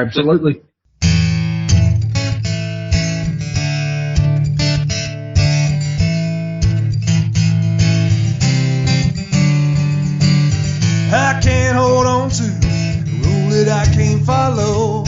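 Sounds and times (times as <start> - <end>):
strummed acoustic guitar: 0.9 - 15.0.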